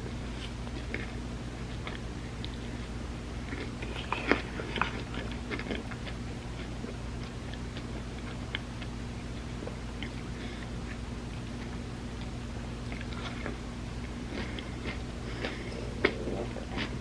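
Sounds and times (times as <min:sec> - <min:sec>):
steady low hum: 0:00.0 - 0:17.0
chewing with wet mouth clicks: 0:00.4 - 0:02.7, 0:03.4 - 0:17.0.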